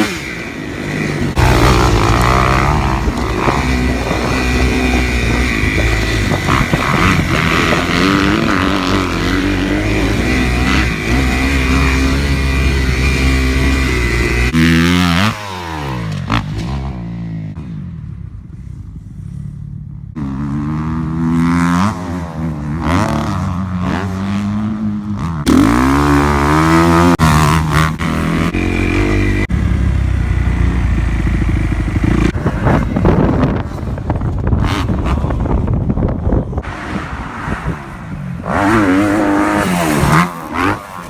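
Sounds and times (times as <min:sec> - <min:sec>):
dirt bike engine revving: 0:00.0 - 0:18.2, 0:20.2 - 0:41.0.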